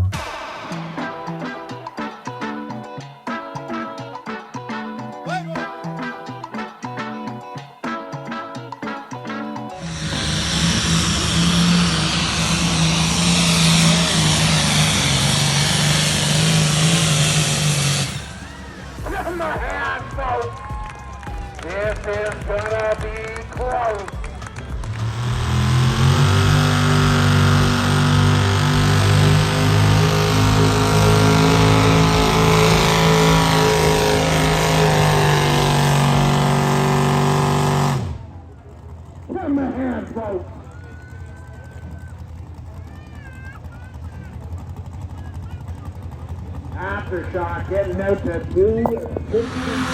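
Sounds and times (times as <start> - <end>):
engine roaring at full throttle: 0.0 - 2.8, 9.7 - 49.9.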